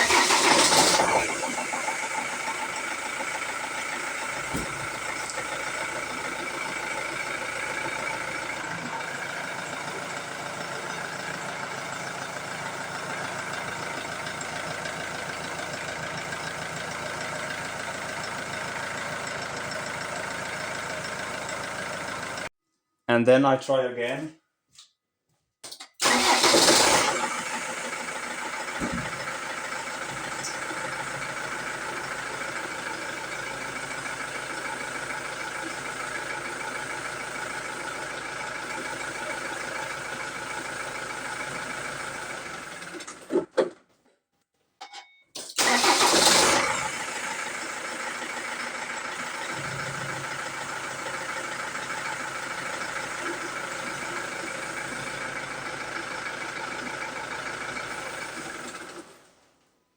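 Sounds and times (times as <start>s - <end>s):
diesel engine starting and idling: 0.0s - 22.5s, 26.0s - 43.3s, 45.4s - 59.6s
engine stalling: 0.0s - 22.5s, 26.0s - 43.8s, 45.4s - 59.4s.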